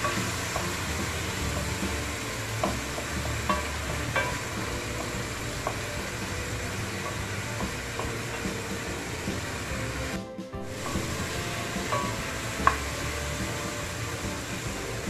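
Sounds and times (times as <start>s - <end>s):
frying sizzle: 0.0s - 15.0s
wooden spoon stirring: 0.0s - 15.0s.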